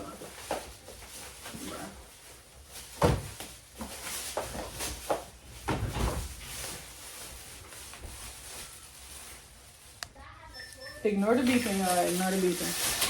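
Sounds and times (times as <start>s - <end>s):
packages knocking and bumping: 0.0s - 10.0s, 11.1s - 13.0s.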